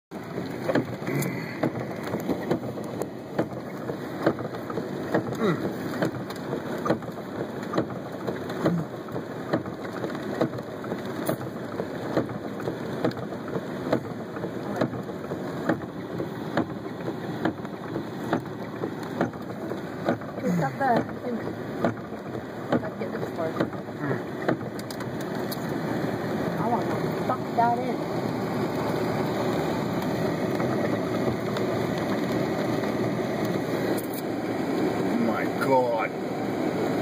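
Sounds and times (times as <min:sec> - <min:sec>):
rain falling steadily: 0:00.1 - 0:37.0.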